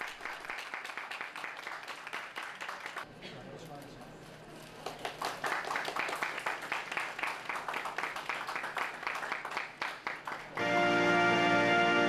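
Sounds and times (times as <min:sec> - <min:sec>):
crowd applauding: 0:00.0 - 0:03.1, 0:04.7 - 0:11.6.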